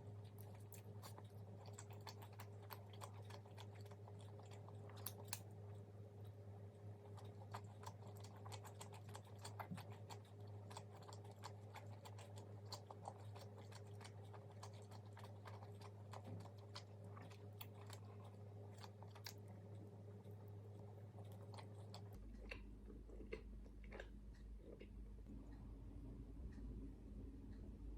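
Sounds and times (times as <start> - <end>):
chewing crispy fried food: 0.0 - 25.0
low steady hum: 0.0 - 27.9.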